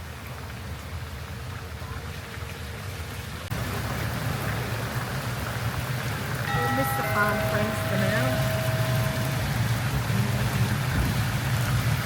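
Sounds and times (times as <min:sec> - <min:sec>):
rain-like hiss: 0:00.0 - 0:12.0.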